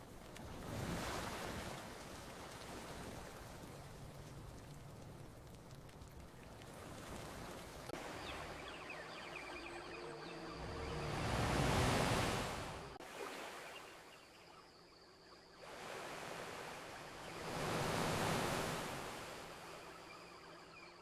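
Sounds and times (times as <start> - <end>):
ocean waves washing onto beach: 0.0 - 14.1, 15.6 - 20.3.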